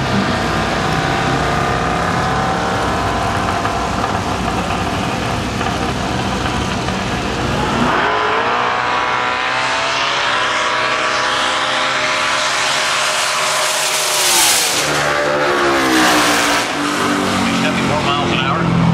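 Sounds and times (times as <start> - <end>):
race car engines revving: 0.0 - 18.9.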